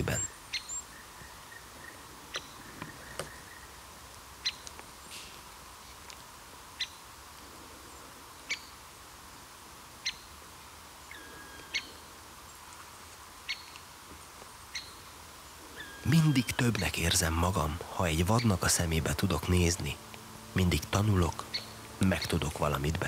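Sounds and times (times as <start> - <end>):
quiet forest ambience: 0.0 - 23.0.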